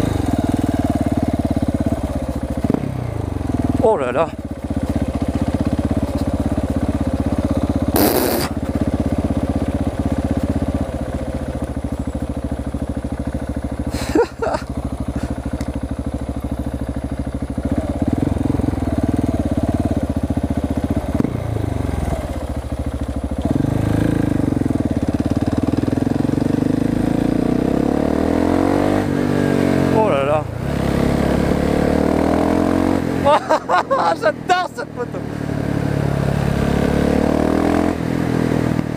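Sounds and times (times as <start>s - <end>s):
loud motorcycle engine revving: 0.0s - 10.8s, 17.0s - 38.9s.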